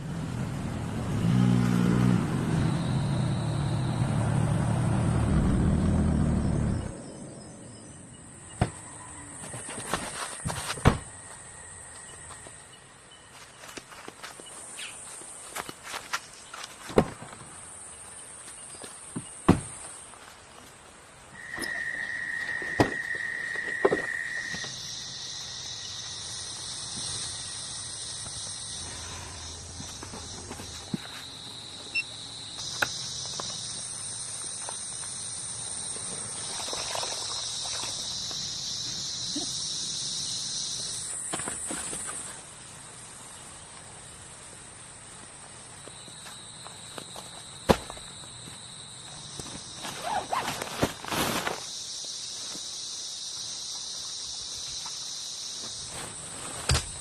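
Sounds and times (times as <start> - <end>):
insects trilling: 1.2 - 57.0.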